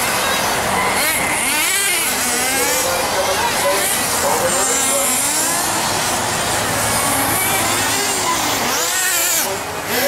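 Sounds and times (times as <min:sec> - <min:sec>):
small engines whining: 0:00.0 - 0:10.0.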